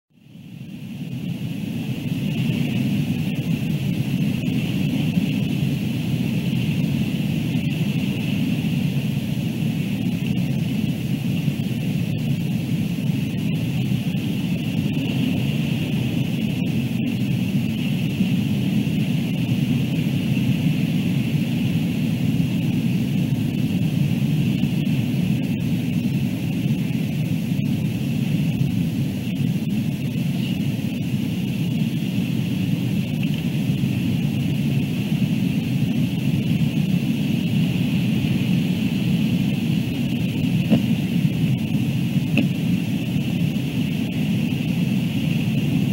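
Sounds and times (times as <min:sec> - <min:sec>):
low rushing wind: 0:00.1 - 0:45.9
constant high hiss: 0:00.2 - 0:45.9.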